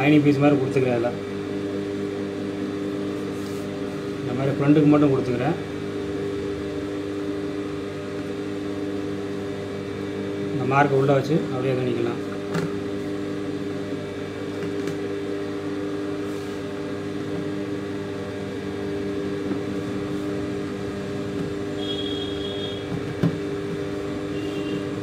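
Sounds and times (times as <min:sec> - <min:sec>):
electric motor hum: 0:00.0 - 0:25.0.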